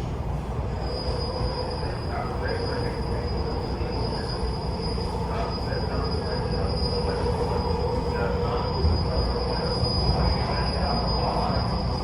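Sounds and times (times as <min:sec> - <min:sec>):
rail car rumble: 0:00.0 - 0:12.0.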